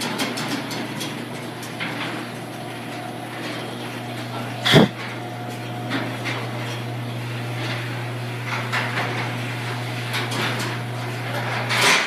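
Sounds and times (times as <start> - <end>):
door rollers clicking and rattling: 0.0 - 12.0
garage door opener motor humming: 0.0 - 12.0.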